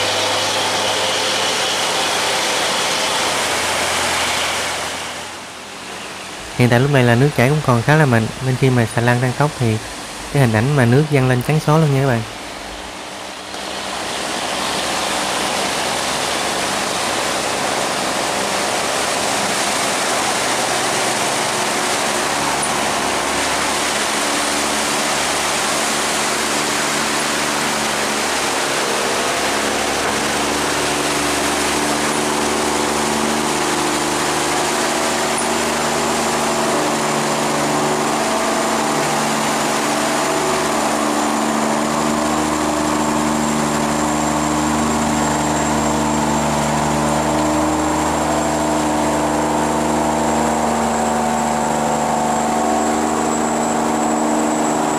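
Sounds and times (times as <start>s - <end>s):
boat engine humming: 0.0s - 54.9s
water rushing through sluice gate: 0.0s - 54.9s.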